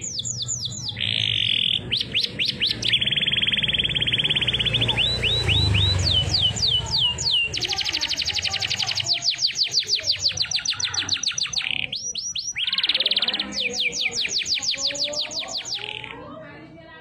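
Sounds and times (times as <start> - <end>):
canary singing trills: 0.0 - 16.4.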